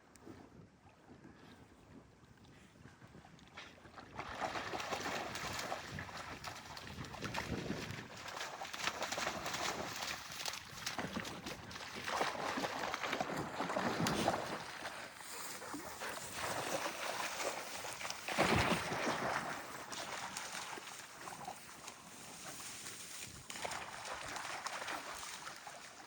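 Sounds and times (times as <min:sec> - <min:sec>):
dogs splashing in water: 0:03.6 - 0:26.0.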